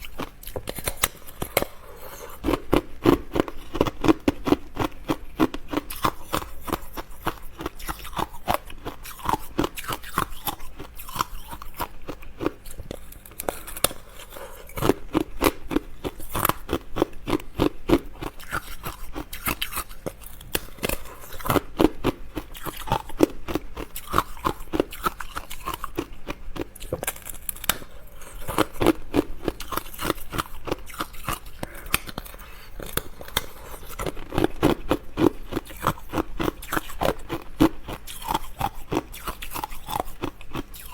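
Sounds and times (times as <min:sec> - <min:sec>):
crunchy snack chewing: 0:00.0 - 0:40.9
wet mouth sounds: 0:00.0 - 0:40.9.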